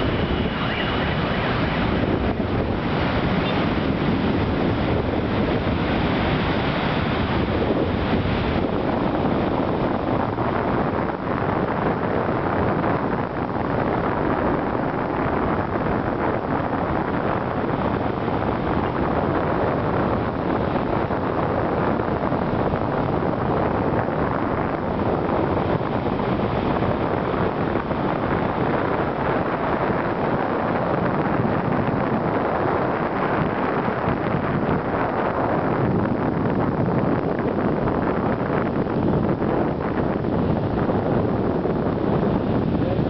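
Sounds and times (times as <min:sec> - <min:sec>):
wind rushing over microphone: 0:00.0 - 0:43.0.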